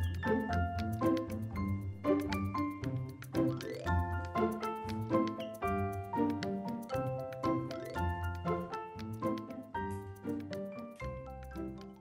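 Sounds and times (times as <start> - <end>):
light tune with ticking beat: 0.0 - 12.0.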